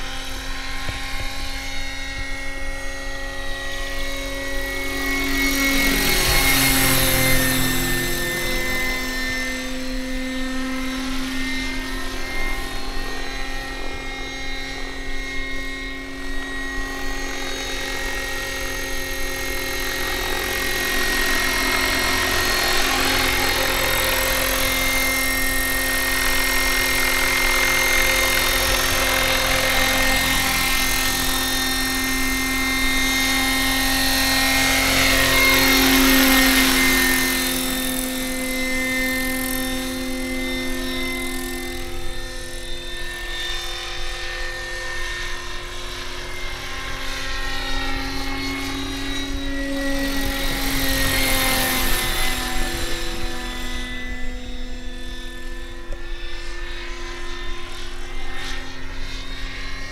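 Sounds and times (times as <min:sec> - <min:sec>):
electric motor whine: 0:00.0 - 0:59.9
helicopter rotor noise: 0:00.0 - 0:59.9.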